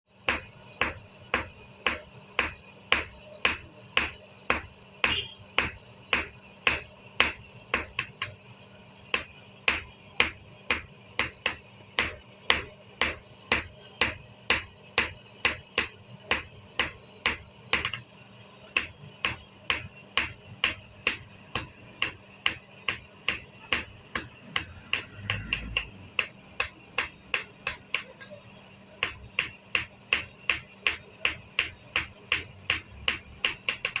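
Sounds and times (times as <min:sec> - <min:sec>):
hammer striking metal on anvil: 0:00.2 - 0:08.4, 0:09.1 - 0:34.0.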